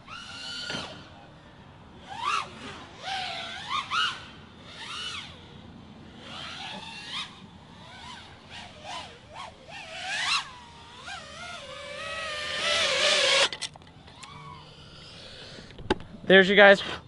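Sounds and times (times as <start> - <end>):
drone motors whining: 0.0 - 16.3.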